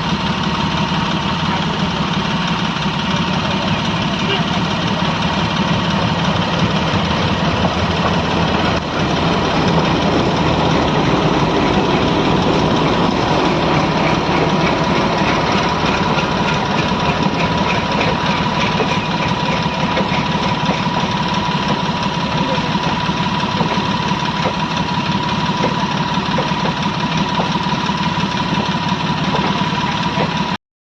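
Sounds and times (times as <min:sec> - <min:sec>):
engine running: 0:00.0 - 0:30.6.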